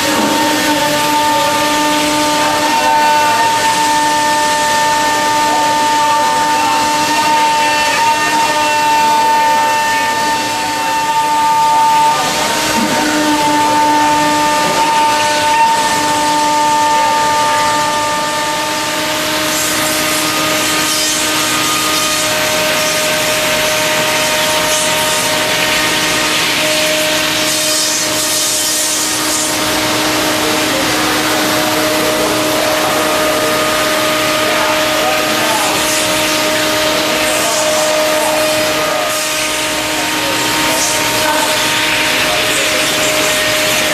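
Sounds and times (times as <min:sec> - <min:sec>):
cnc machine milling metal: 0:00.0 - 0:43.9.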